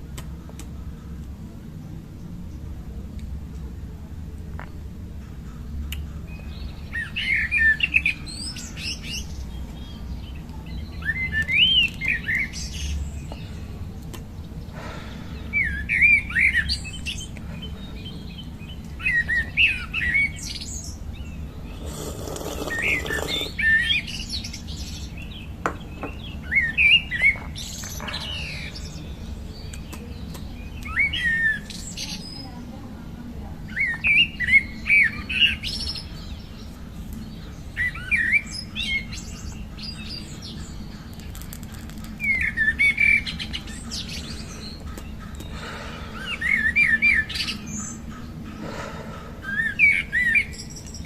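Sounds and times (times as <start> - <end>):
steady low hum: 0.0 - 33.8, 41.9 - 51.0
songbird warbling chirp: 4.6 - 51.0.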